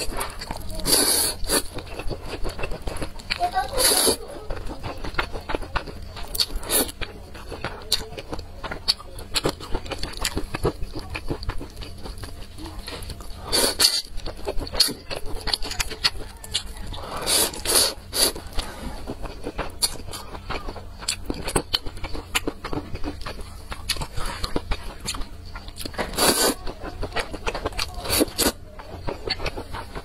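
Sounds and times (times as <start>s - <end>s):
wet chewing: 0.0s - 30.0s.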